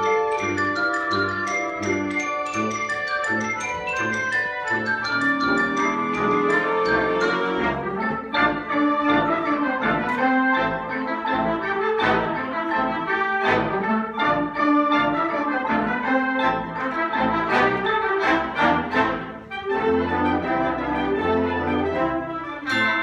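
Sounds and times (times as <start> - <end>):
concert band playing: 0.0 - 23.0.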